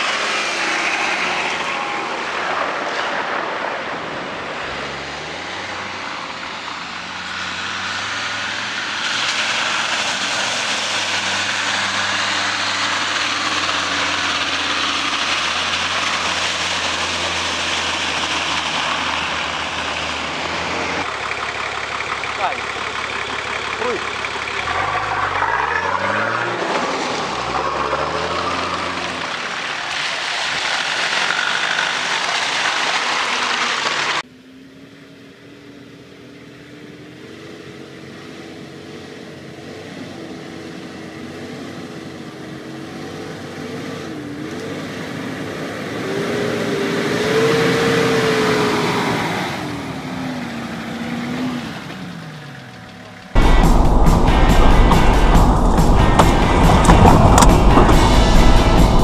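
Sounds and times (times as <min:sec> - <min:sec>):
truck engine revving: 0:00.0 - 0:34.2, 0:39.7 - 0:59.0.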